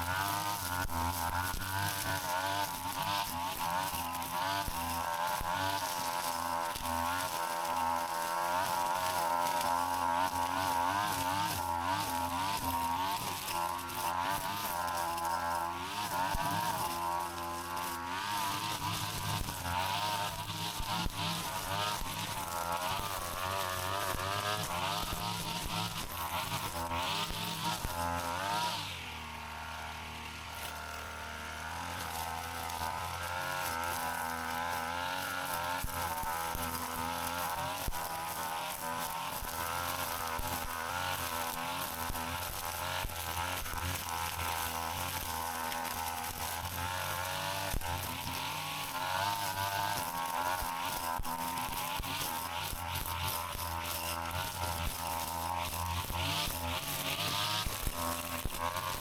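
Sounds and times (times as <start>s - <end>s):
brush cutter engine buzzing: 0.0s - 59.0s.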